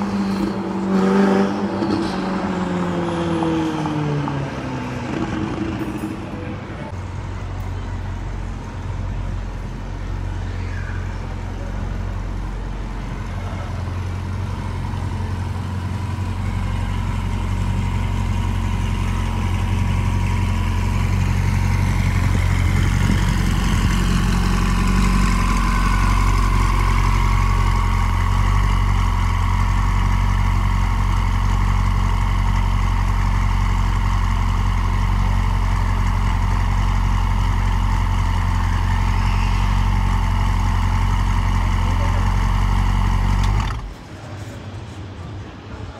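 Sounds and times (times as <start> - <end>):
sports car engine idling and burbling: 0.0 - 44.3.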